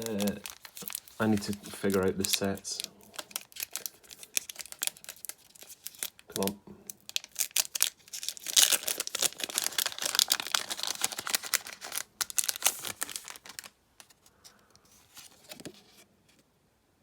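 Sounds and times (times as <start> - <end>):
foil wrapper tearing and crinkling: 0.0 - 14.2.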